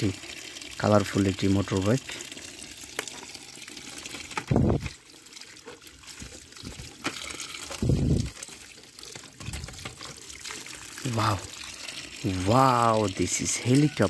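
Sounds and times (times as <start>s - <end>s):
water running and trickling: 0.0s - 14.0s.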